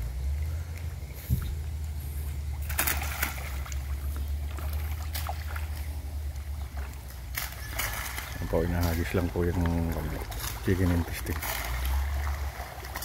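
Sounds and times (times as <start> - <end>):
steady low rumble: 0.0 - 13.0
fish splashing in water: 0.1 - 13.0.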